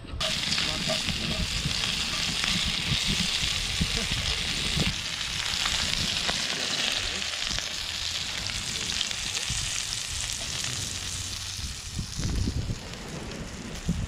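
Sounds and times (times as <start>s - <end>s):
prawns frying in oil: 0.2s - 14.0s.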